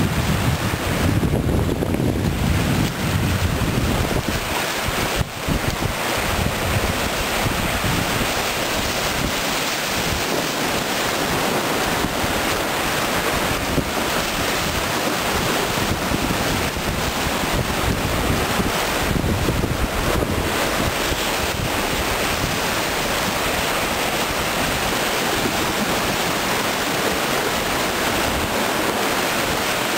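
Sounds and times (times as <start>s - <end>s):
wind buffeting microphone: 0.0s - 29.6s
whitewater rapids rushing: 0.0s - 29.9s.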